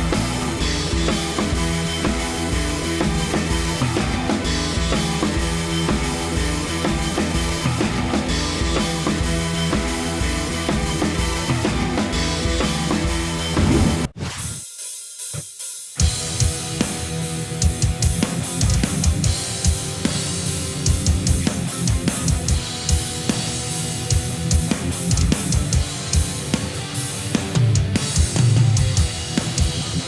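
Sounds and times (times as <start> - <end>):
drum kit with busy bass drum: 0.0 - 30.0.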